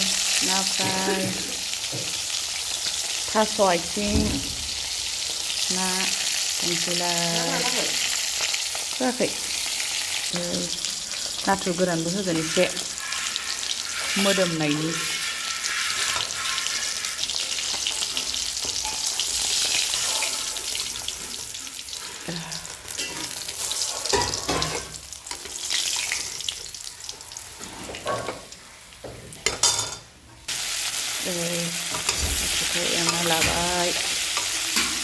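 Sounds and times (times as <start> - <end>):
food sizzling in oil: 0.0 - 35.0.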